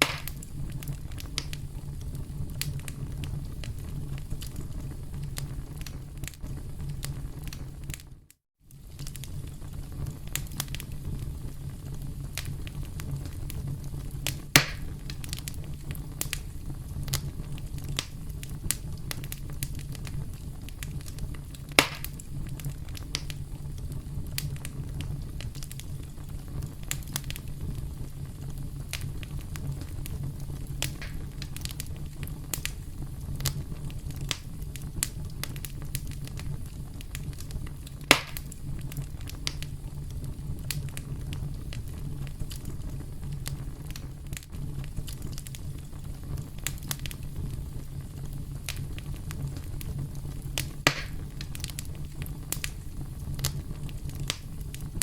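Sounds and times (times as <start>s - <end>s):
campfire crackling: 0.0s - 55.0s
loud fire pops: 0.0s - 55.0s
low fire rumble: 0.0s - 55.0s.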